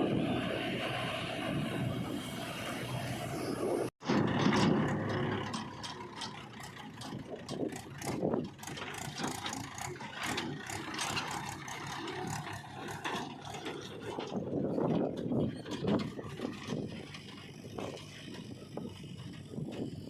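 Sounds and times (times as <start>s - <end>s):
diesel engine running: 0.0s - 20.0s
machinery rattles and clanks: 0.0s - 20.0s.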